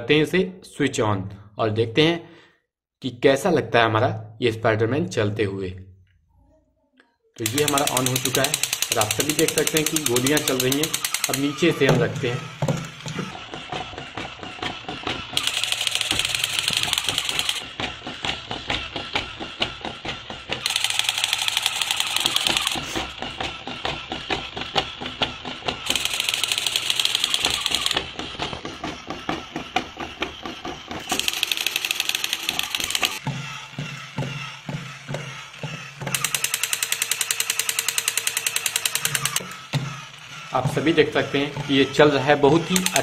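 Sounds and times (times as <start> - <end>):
electronic machine-gun sound: 7.4 - 43.0
toy motor clicking and clattering: 7.4 - 43.0.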